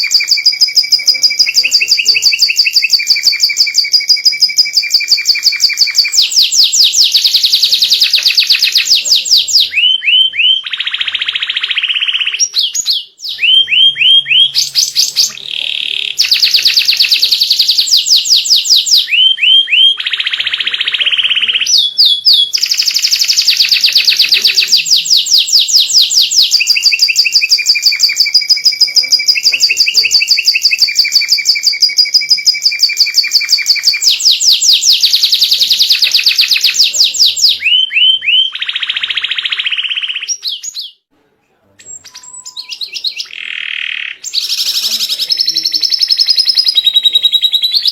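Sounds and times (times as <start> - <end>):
canary singing rapid trills: 0.0 - 41.1, 41.8 - 47.9.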